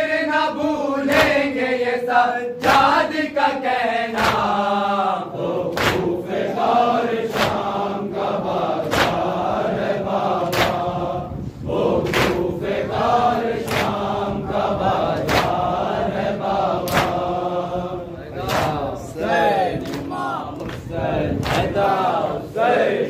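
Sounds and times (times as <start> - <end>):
men chanting in unison: 0.0 - 23.0.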